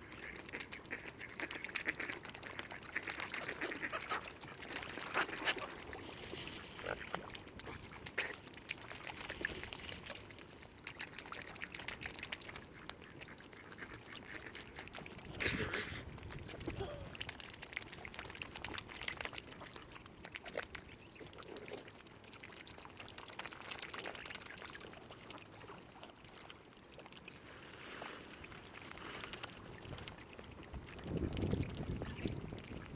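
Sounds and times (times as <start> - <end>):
water lapping and trickling: 0.0 - 32.9.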